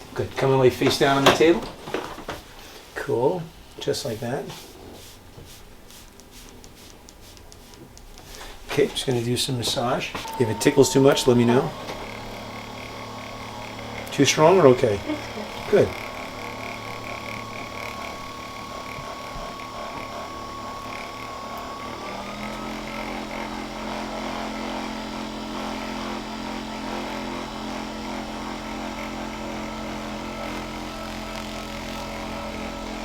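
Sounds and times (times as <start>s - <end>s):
massager motor buzz: 0.0s - 2.3s, 6.3s - 33.0s.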